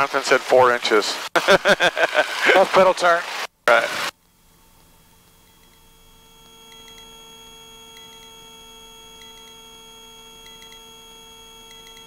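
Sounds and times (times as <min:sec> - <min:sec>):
electrical whine of pure tones: 0:00.0 - 0:12.0.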